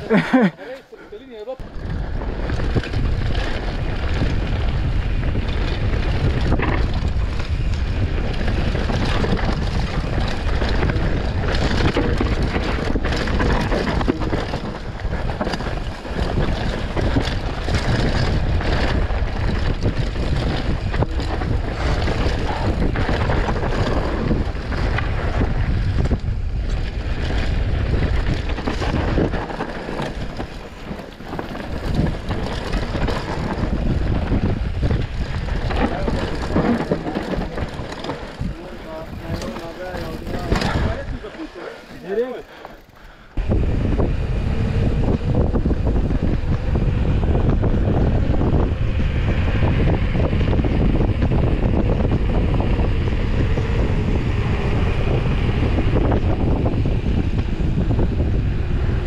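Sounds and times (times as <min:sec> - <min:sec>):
tyres rolling on dirt: 0:00.0 - 0:59.0
wind buffeting microphone: 0:01.2 - 0:59.0
bike knocks and rattles: 0:01.6 - 0:59.0.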